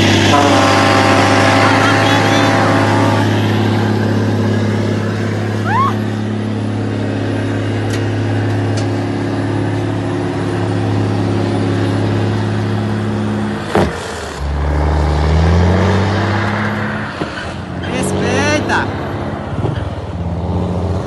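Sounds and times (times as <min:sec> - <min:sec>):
diesel truck engine pulling away: 0:00.0 - 0:21.0.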